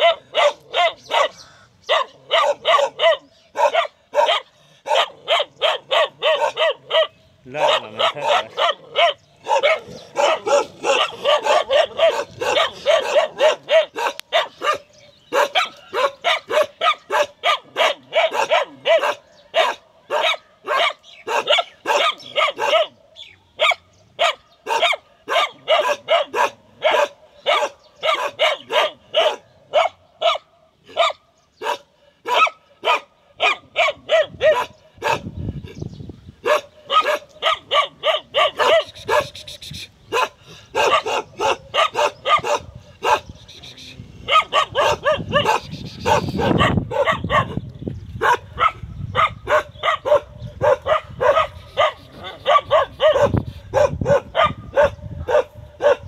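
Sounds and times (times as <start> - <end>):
dog barking fast: 0.0 - 23.0, 23.6 - 35.3, 36.4 - 39.4, 40.1 - 43.4, 44.3 - 47.6, 48.2 - 56.0.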